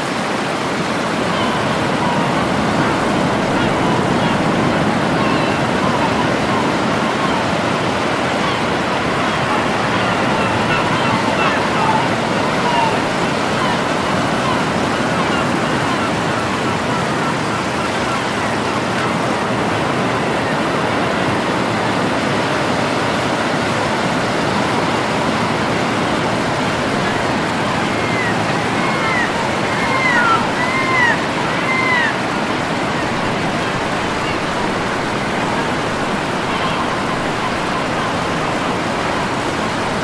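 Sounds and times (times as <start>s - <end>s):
ocean waves rushing: 0.0s - 40.0s.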